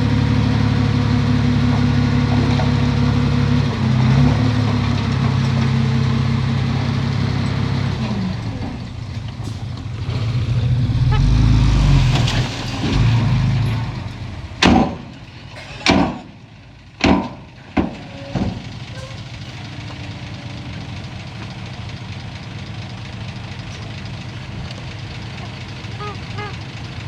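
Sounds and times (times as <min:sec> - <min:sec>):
diesel engine rumble: 0:00.0 - 0:27.0.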